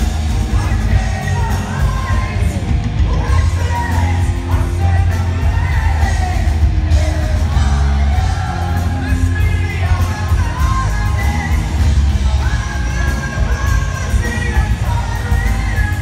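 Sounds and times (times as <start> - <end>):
live metal band playing: 0.0 - 16.0.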